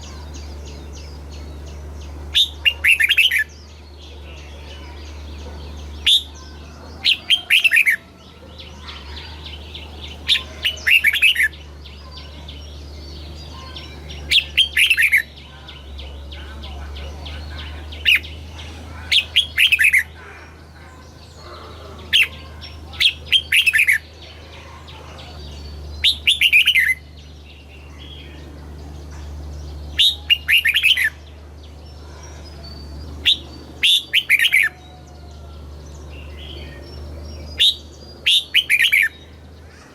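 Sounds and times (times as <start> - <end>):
bulbul singing: 0.0 - 39.9
steady low hum: 0.0 - 39.9.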